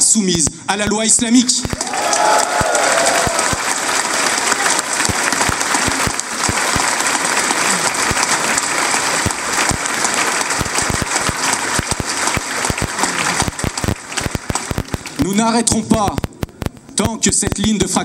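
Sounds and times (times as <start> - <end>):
audience applauding: 1.6 - 16.2.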